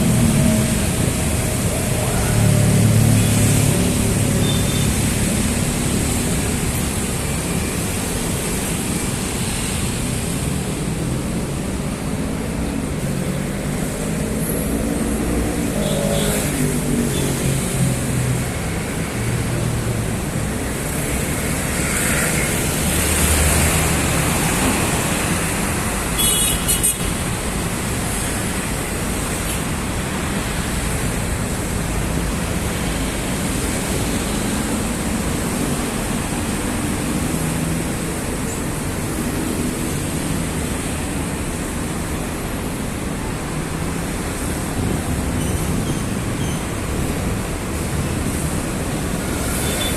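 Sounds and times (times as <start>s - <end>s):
city road traffic: 0.0s - 49.9s.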